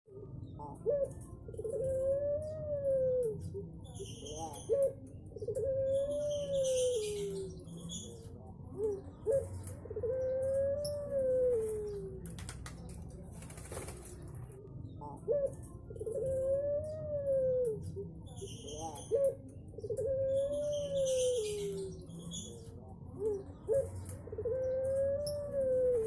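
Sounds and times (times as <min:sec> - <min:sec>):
dove cooing: 0:00.1 - 0:12.3, 0:13.5 - 0:26.0
small birds chirping: 0:03.2 - 0:26.0.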